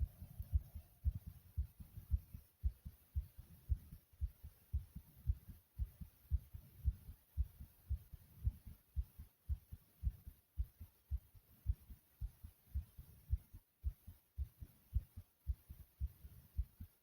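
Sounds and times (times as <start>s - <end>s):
heartbeat thumping: 0.0s - 17.0s.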